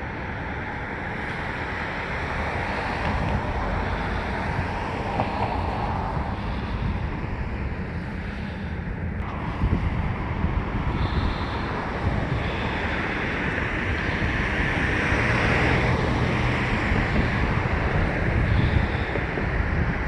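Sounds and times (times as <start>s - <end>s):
rushing outdoor noise: 0.0s - 20.0s.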